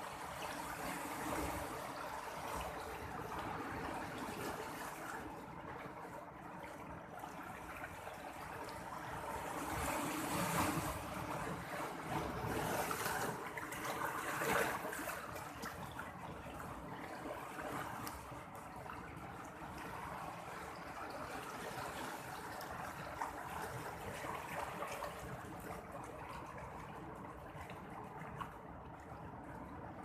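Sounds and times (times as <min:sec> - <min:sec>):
sea waves washing in: 0:00.0 - 0:30.0.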